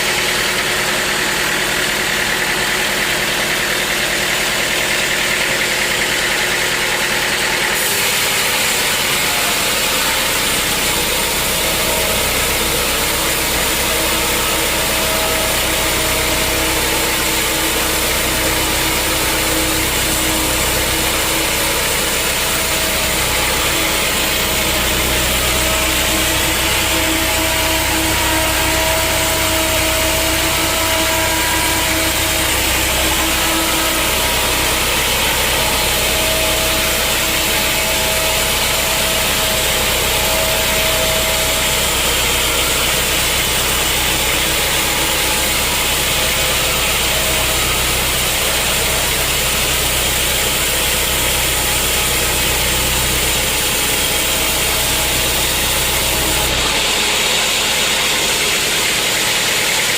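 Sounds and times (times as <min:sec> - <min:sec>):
engine hum: 0:00.0 - 0:59.9
saw whine cutting wood: 0:00.0 - 0:59.9.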